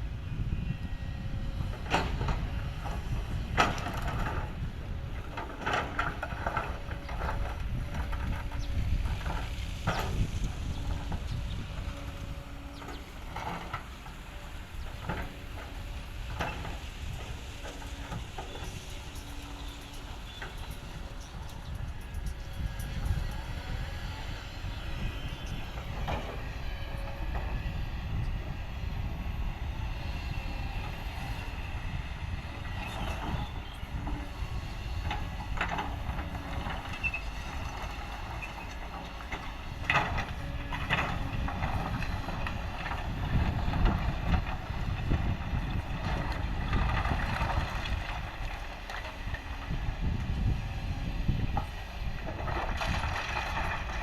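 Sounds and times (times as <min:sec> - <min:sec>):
diesel machinery rumbling: 0:00.0 - 0:54.0.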